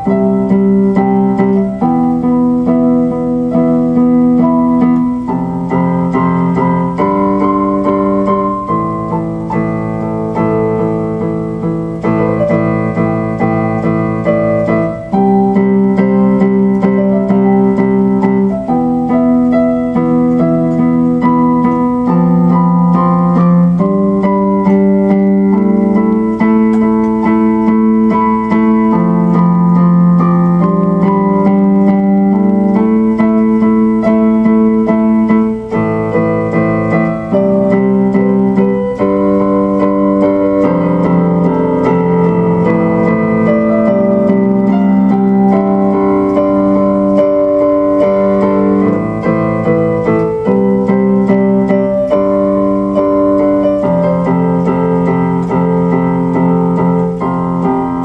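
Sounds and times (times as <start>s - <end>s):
electric piano chords: 0.0s - 58.0s.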